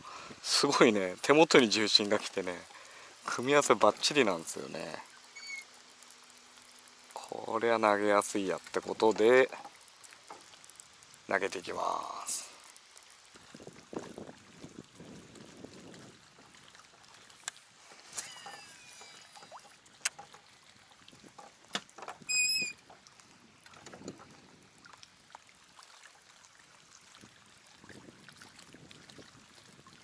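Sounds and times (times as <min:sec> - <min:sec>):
water lapping against boat hull: 0:00.0 - 0:30.0.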